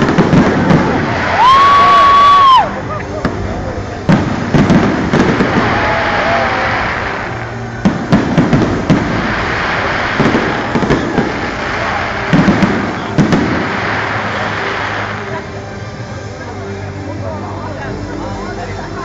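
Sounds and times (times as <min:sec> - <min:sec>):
fireworks bursting: 0:00.0 - 0:16.3
continuous background noise: 0:00.0 - 0:19.0.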